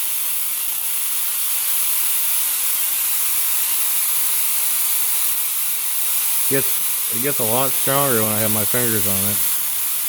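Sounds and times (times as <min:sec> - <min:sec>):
high-voltage spark gap hissing: 0:00.0 - 0:10.0.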